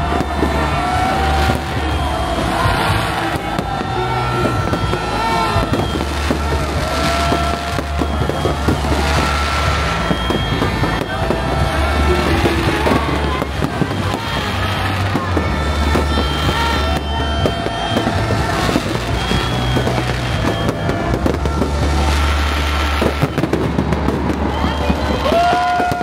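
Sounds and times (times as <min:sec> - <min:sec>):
fireworks bangs and crackles: 0:00.0 - 0:26.0
music with steady bass line: 0:00.0 - 0:26.0.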